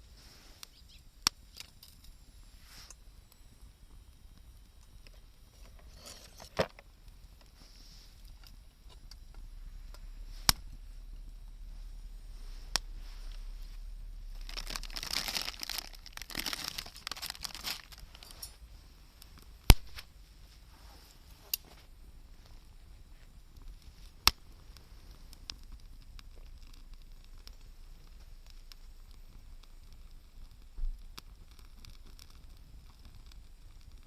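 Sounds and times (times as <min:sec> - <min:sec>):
campfire popping: 0:00.0 - 0:34.0
rustling hiss: 0:00.0 - 0:34.0.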